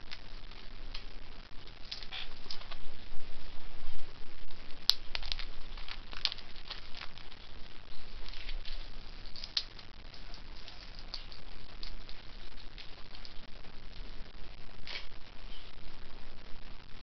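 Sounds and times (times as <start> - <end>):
eggshell crackling: 0.0 - 15.3.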